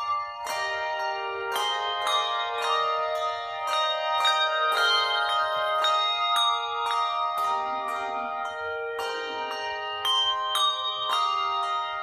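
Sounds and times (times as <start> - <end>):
handbells playing a tune: 0.0 - 12.0.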